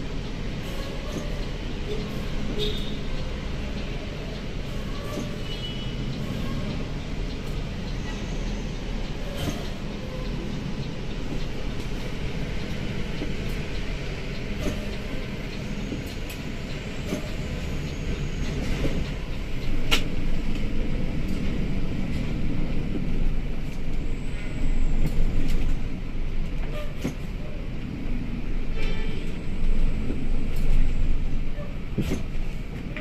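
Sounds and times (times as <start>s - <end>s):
heavy vehicle engines rumbling: 0.0s - 33.0s.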